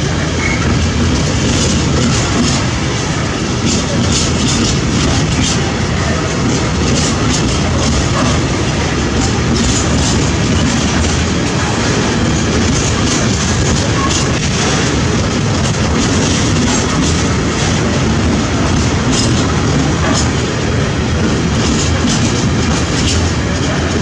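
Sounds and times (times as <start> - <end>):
train wheels rumbling on rails: 0.0 - 24.0
wheels clacking over rail joints: 0.0 - 24.0.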